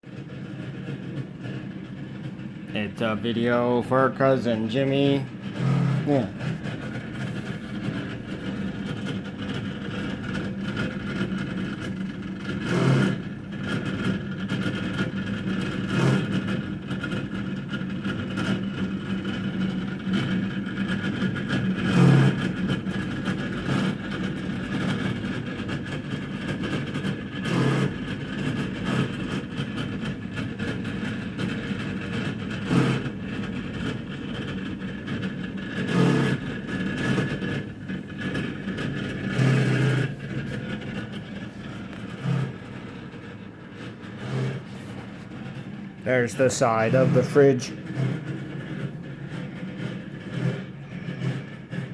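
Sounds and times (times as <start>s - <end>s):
refrigerator humming: 0.0s - 51.9s.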